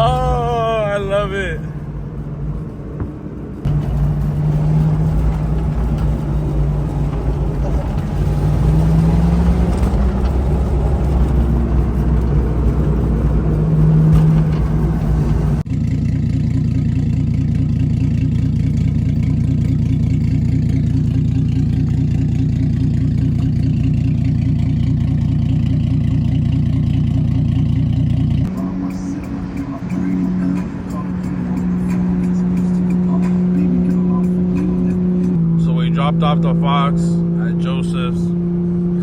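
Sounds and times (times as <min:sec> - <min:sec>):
car engine accelerating: 0:00.0 - 0:39.0
road and wind noise: 0:00.0 - 0:39.0.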